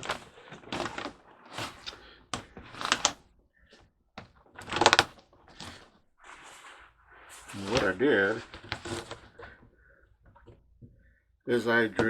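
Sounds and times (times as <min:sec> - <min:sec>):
objects rustling and knocking: 0:00.0 - 0:11.1.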